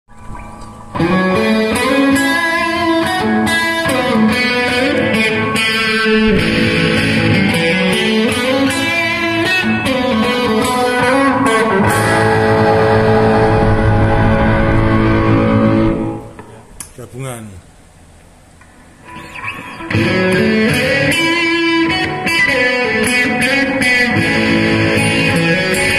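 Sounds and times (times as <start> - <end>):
distorted electric guitar riff: 0.1 - 16.6, 18.7 - 25.9.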